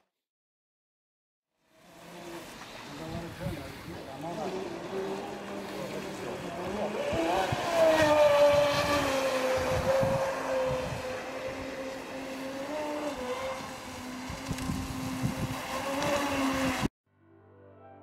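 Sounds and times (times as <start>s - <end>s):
model powerboat motor: 1.6s - 16.9s.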